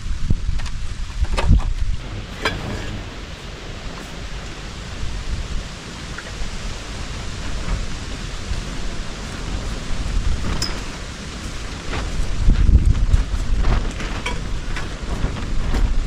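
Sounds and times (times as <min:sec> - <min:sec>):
steady rain: 0:00.0 - 0:16.0
wind rumble on microphone: 0:00.0 - 0:16.0.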